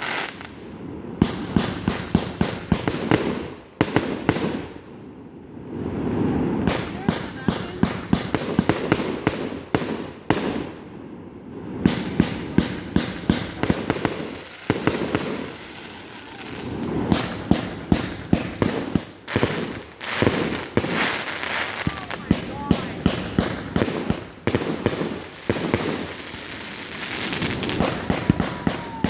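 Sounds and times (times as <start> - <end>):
fireworks bangs: 0.0 - 4.8, 5.5 - 29.0.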